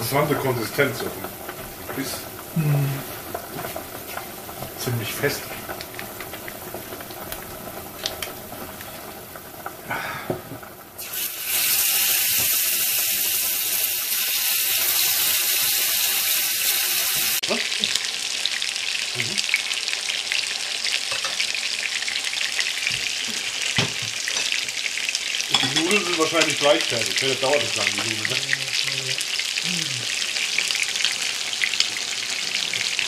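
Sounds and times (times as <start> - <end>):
kitchen noise: 0.0 - 18.1, 20.9 - 33.0
meat sizzling in a frying pan: 0.0 - 33.0.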